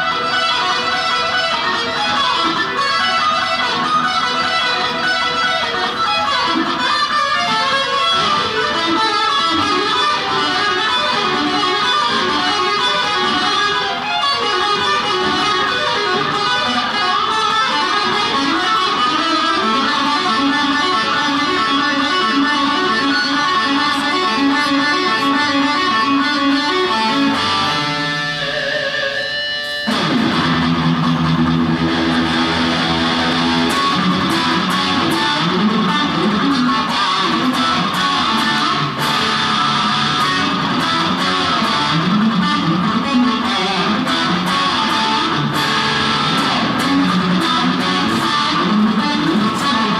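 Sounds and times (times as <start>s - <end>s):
electric guitar playing: 0.0s - 49.9s.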